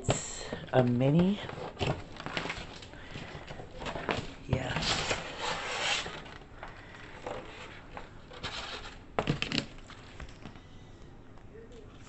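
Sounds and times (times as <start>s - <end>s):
packaging rustling and scraping: 0.1s - 10.6s.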